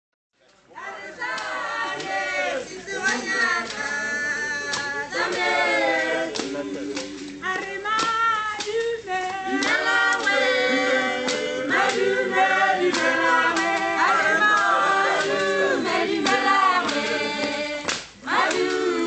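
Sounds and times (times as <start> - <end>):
choir singing in harmony: 0.8 - 7.9, 9.0 - 19.0.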